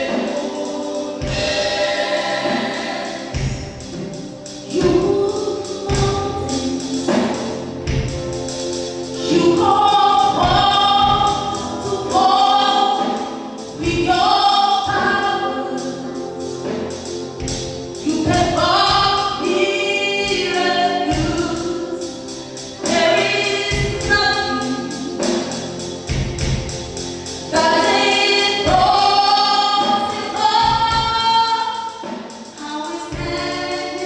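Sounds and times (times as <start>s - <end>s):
choir singing gospel song: 0.0s - 34.0s
percussion beating: 0.0s - 34.0s.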